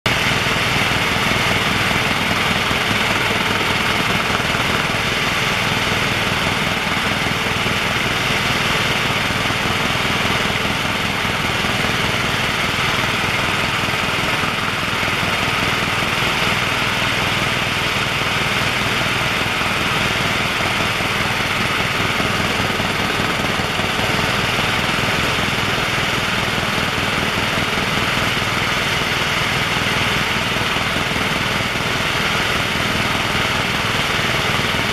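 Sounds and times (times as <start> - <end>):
helicopter turbine and rotor noise: 0.1 - 34.9.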